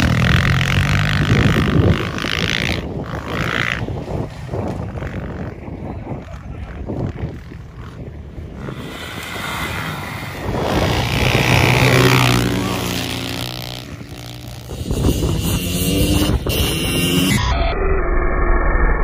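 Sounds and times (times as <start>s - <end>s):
dirt bike engines passing: 0.0s - 17.4s.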